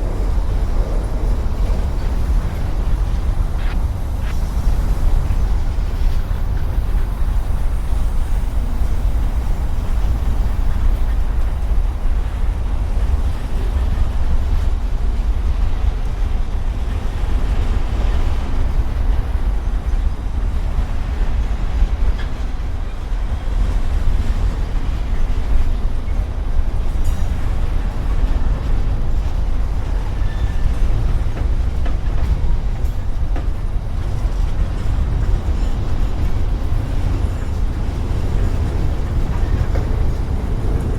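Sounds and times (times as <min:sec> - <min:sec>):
freight train wheels rumbling on rail: 0:00.0 - 0:40.9.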